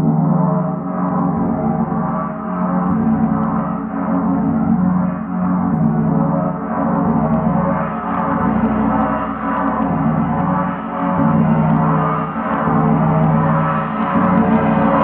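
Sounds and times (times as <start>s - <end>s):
spinning gong pulsing drone: 0.0s - 15.0s.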